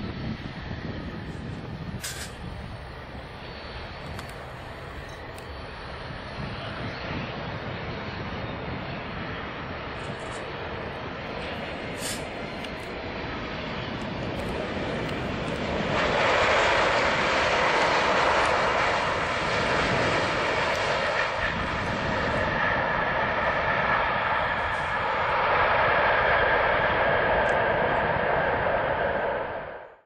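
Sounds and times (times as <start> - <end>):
jet airliner landing: 0.0 - 30.0.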